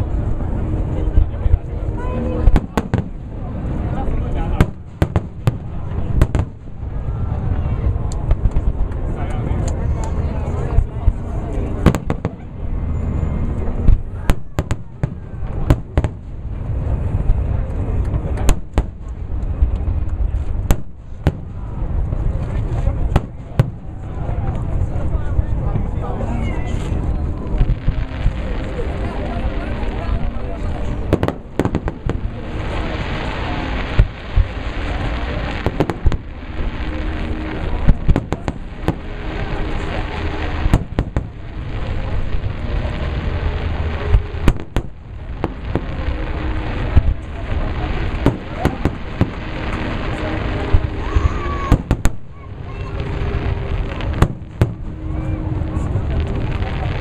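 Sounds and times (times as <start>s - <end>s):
continuous low rumble: 0.0s - 57.0s
fireworks bangs: 0.5s - 9.2s, 10.5s - 25.9s, 26.7s - 57.0s.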